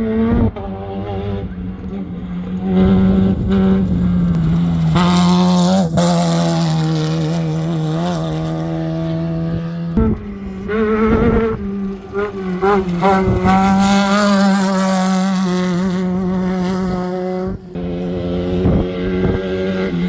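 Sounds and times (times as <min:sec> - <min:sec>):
vehicle engine running steadily: 0:00.0 - 0:20.0.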